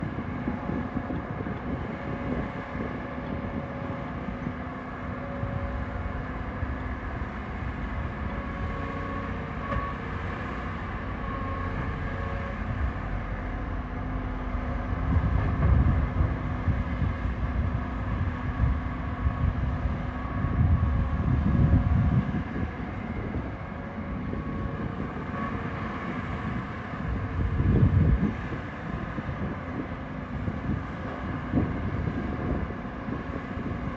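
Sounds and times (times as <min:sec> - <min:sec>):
diesel machinery engine drone: 0:00.0 - 0:33.9.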